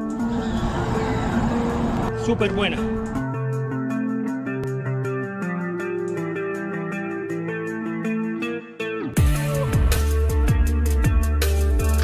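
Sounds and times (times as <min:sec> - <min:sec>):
plucked guitar melody: 0:00.8 - 0:12.0.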